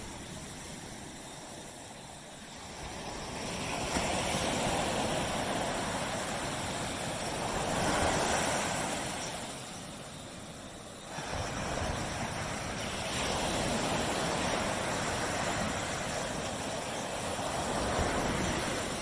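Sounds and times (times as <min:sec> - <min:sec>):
surf washing on beach: 0:00.0 - 0:19.0.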